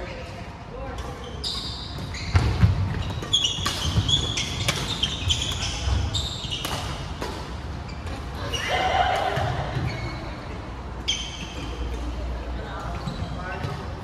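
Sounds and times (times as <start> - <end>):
shoes squeaking: 0.9 - 13.9.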